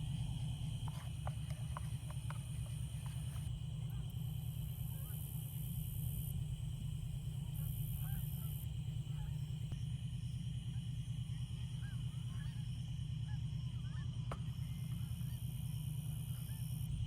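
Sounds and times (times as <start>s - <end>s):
high insect drone: 0.0s - 17.0s
low steady rumble: 0.0s - 17.0s.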